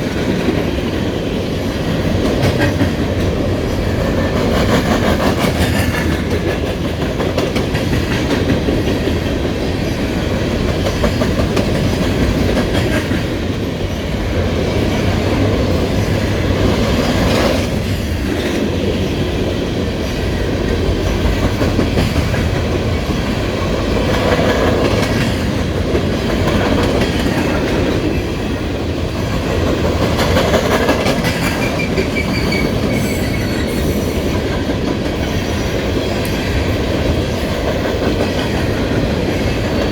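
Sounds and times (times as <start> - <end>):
freight train cars rumbling past: 0.0 - 39.9.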